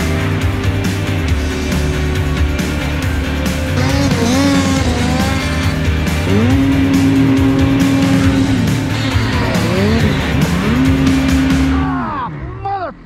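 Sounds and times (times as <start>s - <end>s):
background music: 0.0s - 13.0s
snowmobile engine revving: 0.0s - 13.0s.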